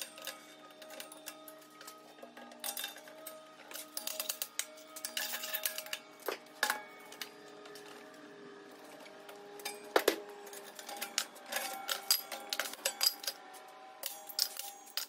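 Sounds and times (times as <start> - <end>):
metal tools clanking on sheet steel: 0.0 - 8.0, 8.7 - 15.0.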